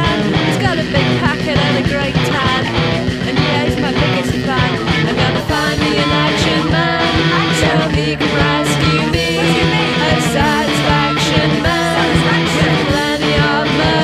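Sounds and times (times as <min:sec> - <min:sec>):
fast drum beat: 0:00.0 - 0:14.0
loud noise-rock song: 0:00.0 - 0:14.0.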